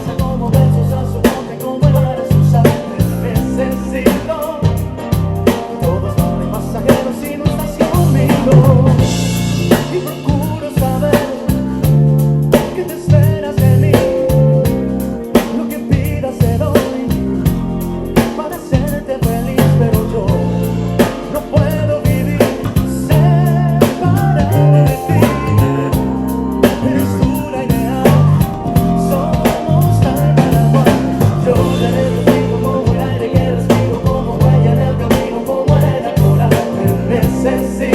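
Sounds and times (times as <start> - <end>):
drum kit: 0.0 - 37.9
electric bass line: 0.0 - 37.9
person singing: 0.0 - 37.9.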